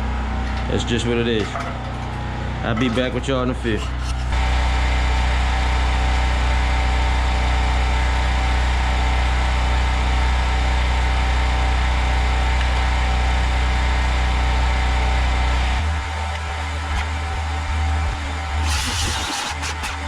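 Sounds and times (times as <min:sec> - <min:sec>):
engine idling: 0:03.7 - 0:20.0.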